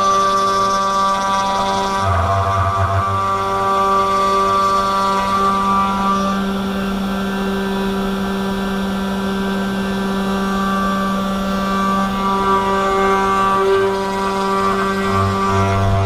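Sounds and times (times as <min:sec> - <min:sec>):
router spindle humming: 0:00.0 - 0:16.0.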